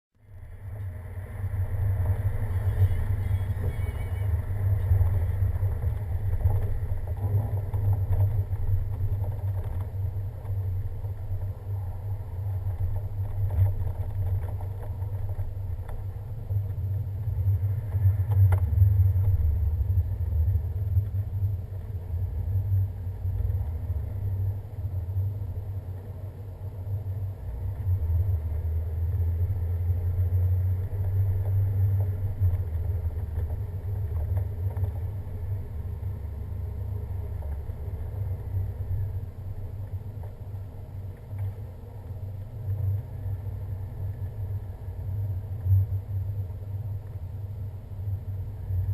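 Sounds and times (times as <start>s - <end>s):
vehicle engine and tyres rumbling: 0.1s - 48.9s.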